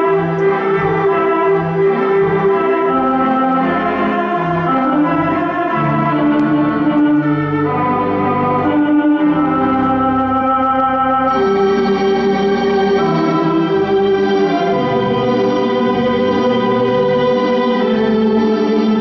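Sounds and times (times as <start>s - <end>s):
theatre organ chords: 0.0s - 19.0s.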